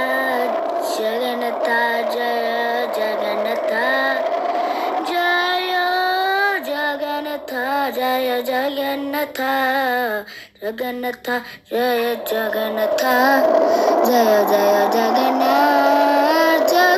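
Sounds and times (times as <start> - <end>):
high voice singing: 0.0 - 10.0, 10.8 - 16.9.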